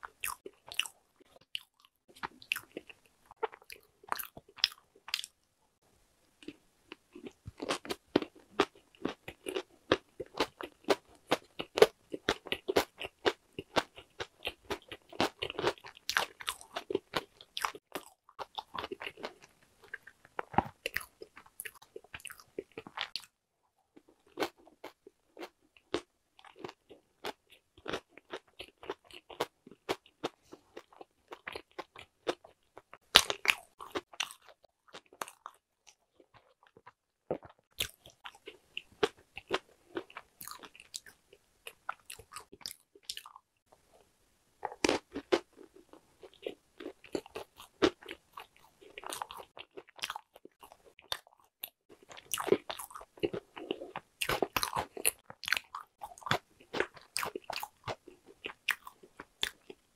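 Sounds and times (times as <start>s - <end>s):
crunchy chewing: 0.0s - 5.3s, 6.4s - 23.3s, 24.0s - 43.4s, 44.6s - 59.9s.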